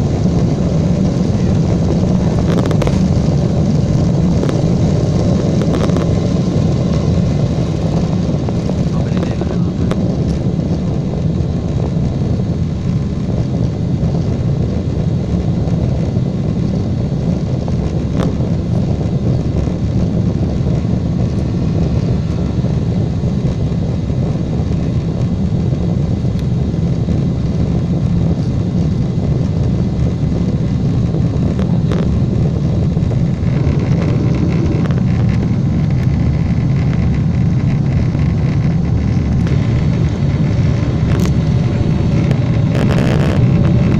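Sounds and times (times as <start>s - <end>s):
jet engines rumbling: 0.0s - 43.9s.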